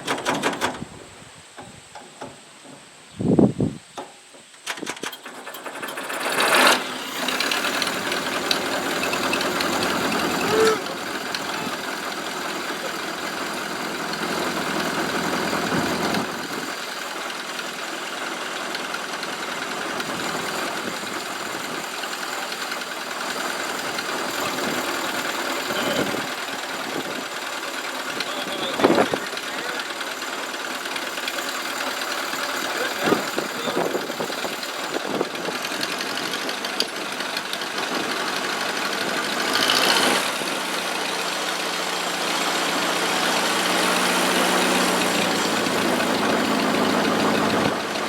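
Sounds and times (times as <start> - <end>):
engine cranking knocks: 0.0 - 1.0, 4.0 - 48.0
engine starting and running: 0.0 - 1.1, 4.2 - 48.0.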